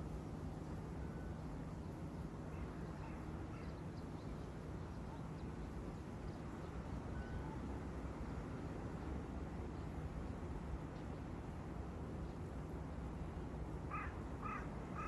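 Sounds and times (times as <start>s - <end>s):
low town hum and rumble: 0.0s - 15.0s.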